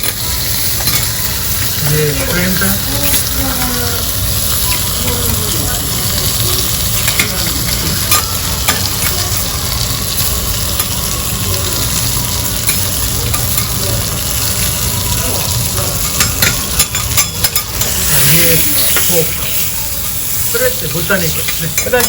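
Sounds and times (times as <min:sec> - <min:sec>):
food sizzling on a griddle: 0:00.0 - 0:22.0.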